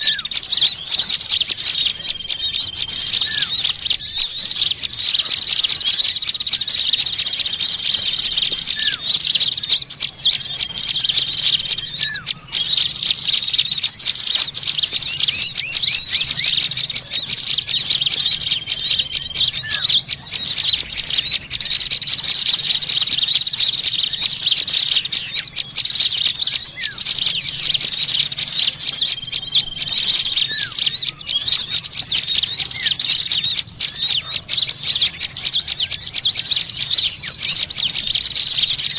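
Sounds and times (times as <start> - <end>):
many small birds chirping: 0.0 - 38.9.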